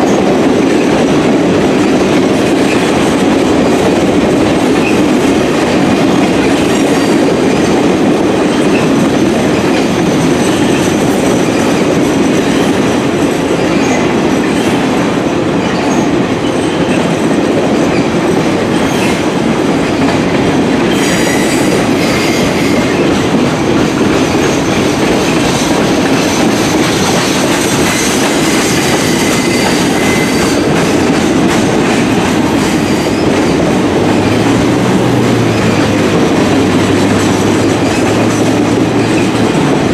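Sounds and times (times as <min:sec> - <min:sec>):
train rolling past: 0:00.0 - 0:39.9
wheels clicking over rail joints: 0:00.0 - 0:39.9.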